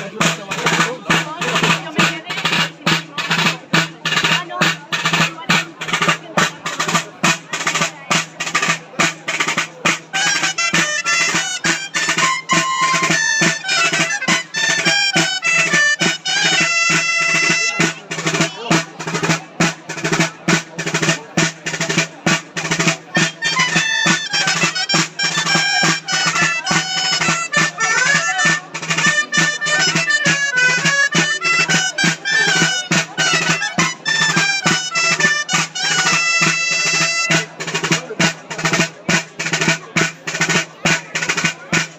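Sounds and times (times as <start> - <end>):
drum beating steady rhythm: 0.0 - 41.9
shawm playing dance tune: 0.0 - 41.9.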